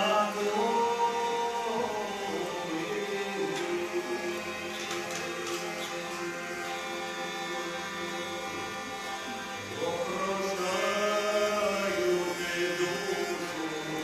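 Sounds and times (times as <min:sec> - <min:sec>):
person singing long note: 0:00.0 - 0:05.9, 0:08.3 - 0:14.0
held musical accompaniment: 0:00.0 - 0:14.0.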